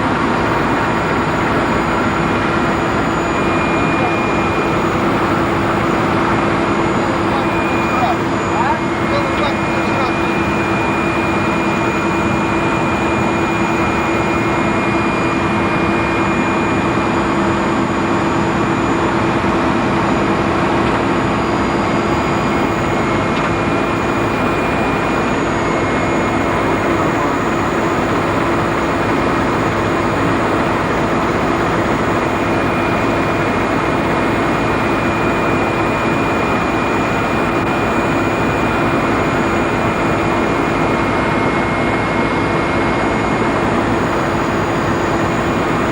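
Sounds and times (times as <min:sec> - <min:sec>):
helicopter engine and rotor drone: 0:00.0 - 0:45.9.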